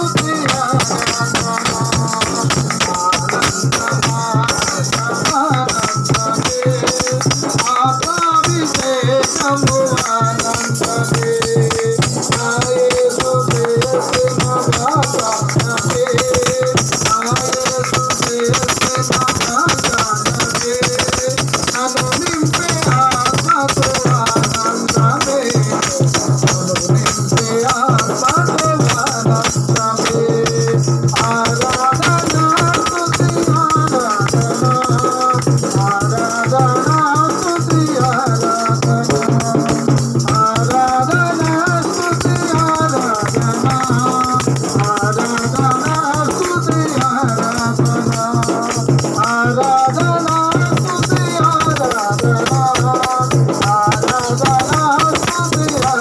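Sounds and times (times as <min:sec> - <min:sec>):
barrel drum: 0:00.0 - 0:56.0
hand percussion rattling: 0:00.0 - 0:56.0
person singing through pa: 0:00.0 - 0:56.0.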